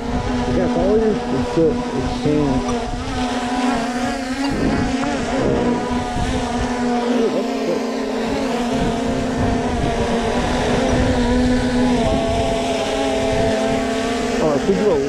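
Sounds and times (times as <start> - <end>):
wind rumble on microphone: 0.0 - 7.1, 8.2 - 15.0
drone propellers buzzing whine: 0.0 - 15.0.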